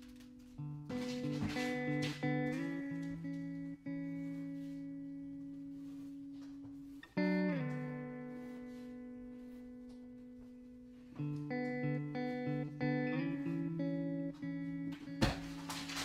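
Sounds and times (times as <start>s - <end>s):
slow guitar chords ringing: 0.0s - 16.0s.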